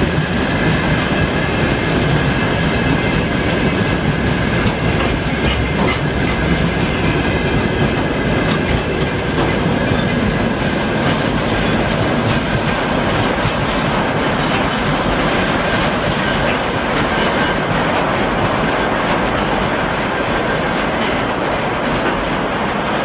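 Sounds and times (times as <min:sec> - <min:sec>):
train wheels rumbling on rails: 0:00.0 - 0:23.0
wheels clicking over rail joints: 0:00.1 - 0:23.0.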